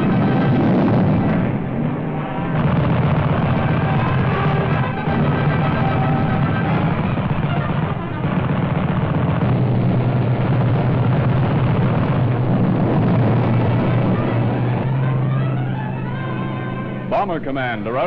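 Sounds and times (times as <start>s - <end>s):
aircraft engine drone: 0.0s - 18.0s.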